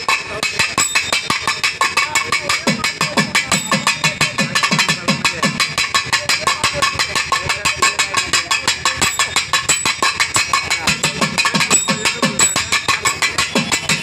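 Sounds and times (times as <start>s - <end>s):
hand drum solo: 0.0s - 14.0s.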